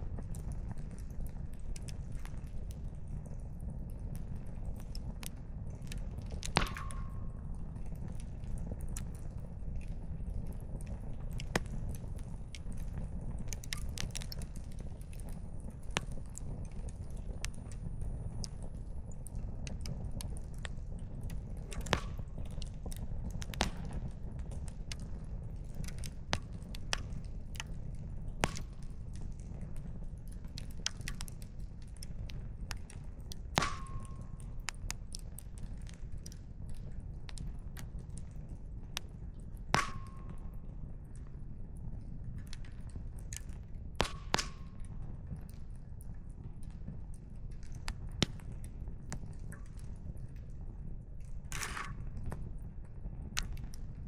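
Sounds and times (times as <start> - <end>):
low rumble of fire: 0.0 - 54.0
wood fire crackling: 0.0 - 54.0.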